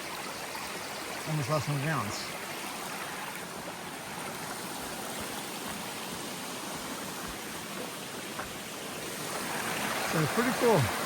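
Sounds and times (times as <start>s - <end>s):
creek water rushing over rocks: 0.0s - 11.0s.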